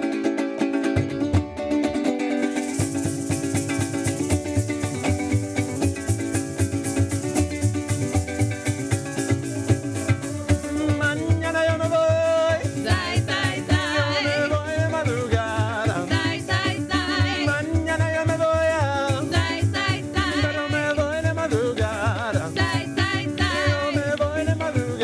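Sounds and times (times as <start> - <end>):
strummed strings: 0.0 - 25.0
maracas shaking: 1.4 - 25.0.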